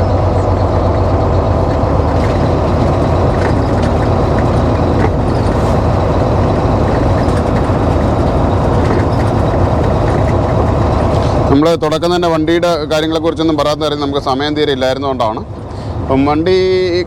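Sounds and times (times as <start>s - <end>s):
road noise: 0.0s - 17.0s
truck diesel engine droning: 0.0s - 17.0s.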